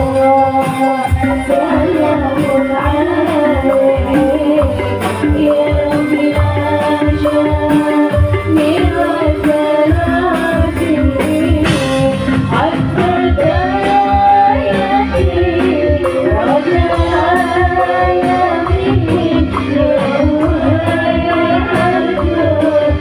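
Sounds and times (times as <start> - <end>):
drum beat and bass: 0.0 - 23.0
person singing: 0.0 - 23.0.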